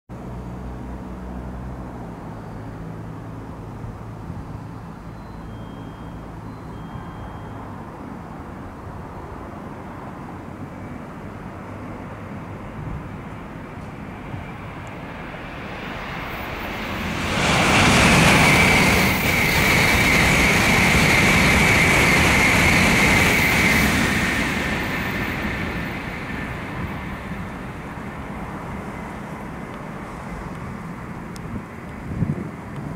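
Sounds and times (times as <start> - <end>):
high-speed train passing: 0.2 - 32.9
train high whine: 0.2 - 32.9.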